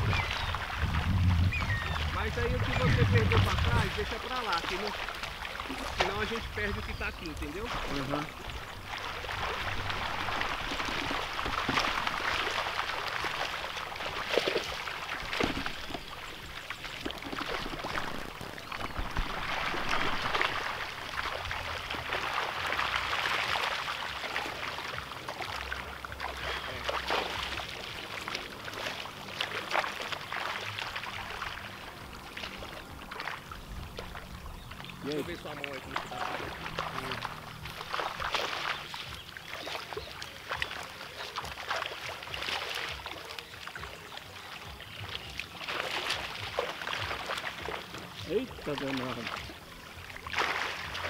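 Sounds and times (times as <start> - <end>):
water splashing and sloshing: 0.0 - 51.0.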